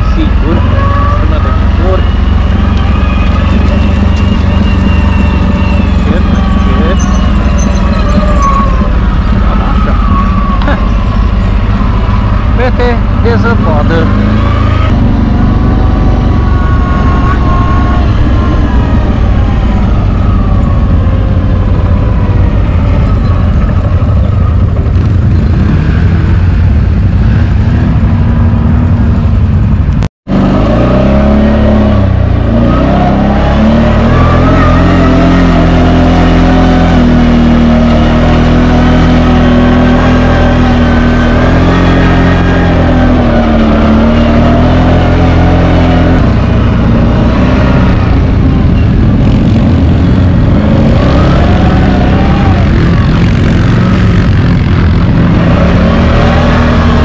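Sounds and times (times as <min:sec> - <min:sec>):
atv engine rumbling: 0:00.0 - 0:57.0.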